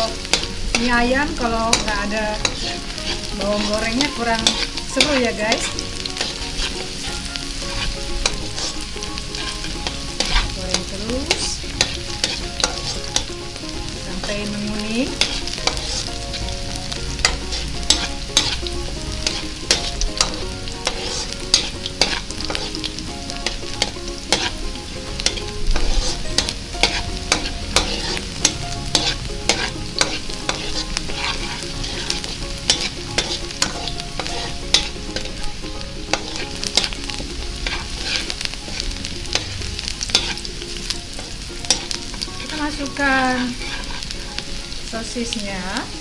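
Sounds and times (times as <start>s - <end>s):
metal spatula scraping pan: 0.0s - 35.5s, 36.1s - 44.6s
onion sizzling in hot oil: 0.0s - 46.0s.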